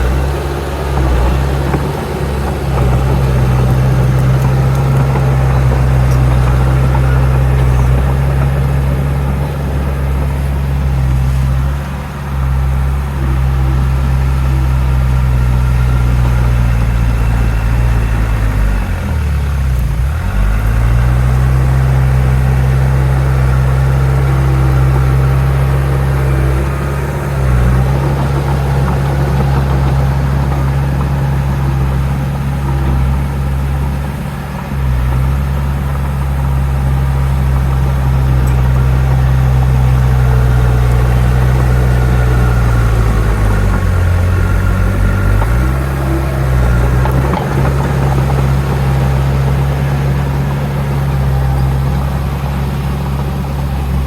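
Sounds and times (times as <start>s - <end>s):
diesel engine deep hum: 0.0s - 54.0s.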